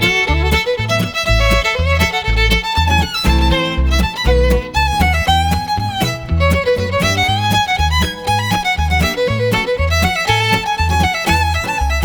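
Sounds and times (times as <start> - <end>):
steady bass beat: 0.0 - 12.0
upbeat fiddle tune: 0.0 - 12.0.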